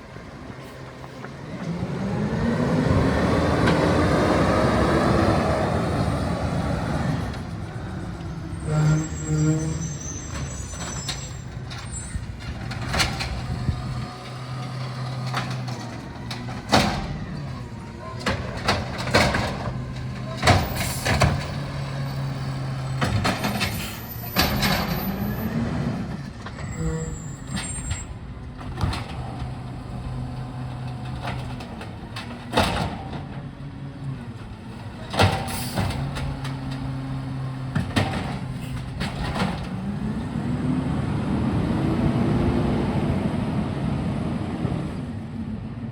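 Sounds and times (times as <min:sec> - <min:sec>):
diesel engine running: 0:00.0 - 0:45.8.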